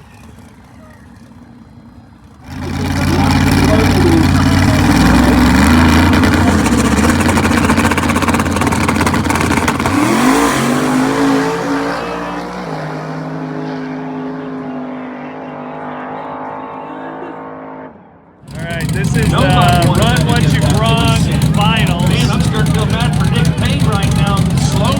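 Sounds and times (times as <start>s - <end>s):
race car engine revving: 0.0s - 24.9s.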